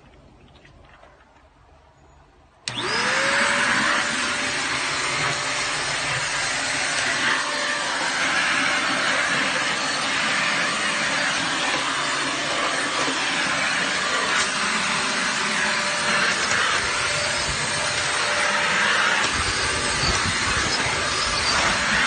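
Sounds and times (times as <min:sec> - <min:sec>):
stick vacuum cleaner running: 0:02.6 - 0:22.0.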